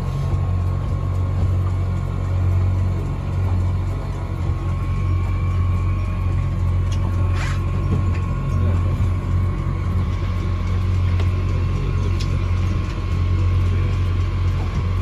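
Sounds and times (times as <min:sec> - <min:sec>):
boat engine humming: 0:00.0 - 0:15.0
faint whine: 0:00.0 - 0:15.0.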